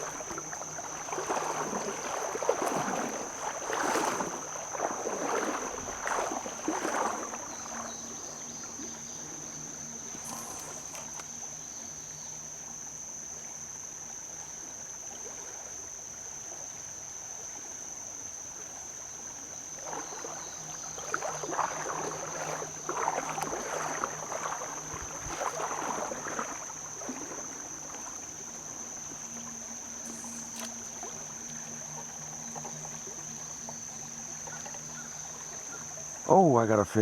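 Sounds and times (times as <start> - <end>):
high insect drone: 0.0 - 37.0
wading through shallow water: 0.0 - 37.0.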